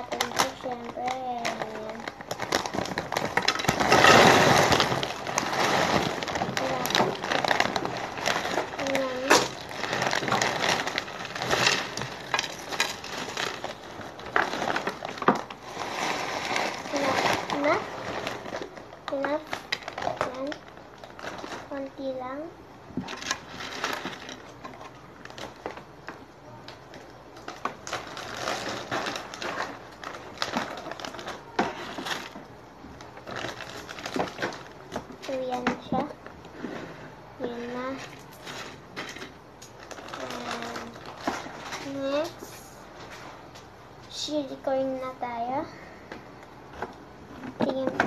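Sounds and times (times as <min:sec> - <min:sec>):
chips rustling and crackling: 0:00.0 - 0:22.0, 0:23.0 - 0:43.8.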